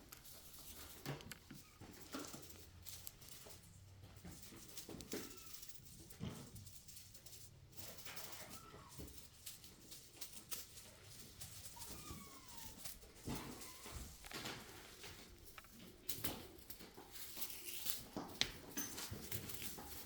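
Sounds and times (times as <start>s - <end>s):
light taps and rustles: 0.0s - 20.0s.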